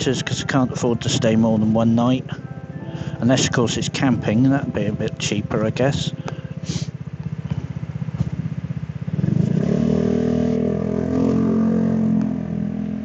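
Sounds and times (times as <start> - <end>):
scooter engine: 0.0 - 13.0.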